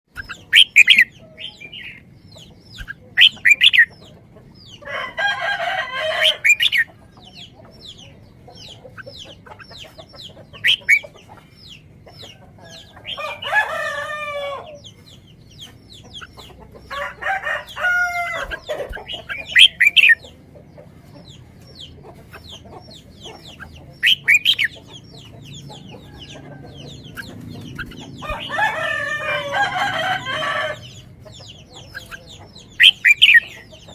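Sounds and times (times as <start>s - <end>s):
long bird calls: 0.1s - 33.9s
sharp loud bird calls: 0.1s - 33.9s.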